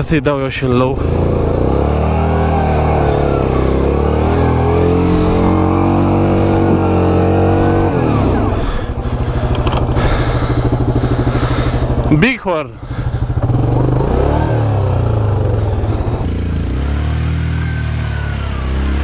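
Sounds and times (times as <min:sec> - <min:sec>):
atv engine revving: 0:00.6 - 0:19.0.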